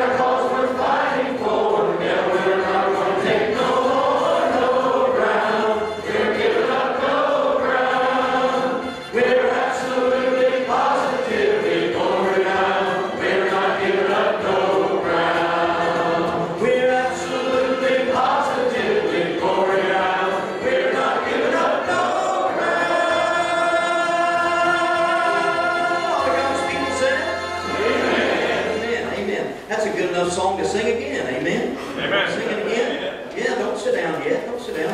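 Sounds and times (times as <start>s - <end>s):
congregation singing: 0.0s - 30.3s.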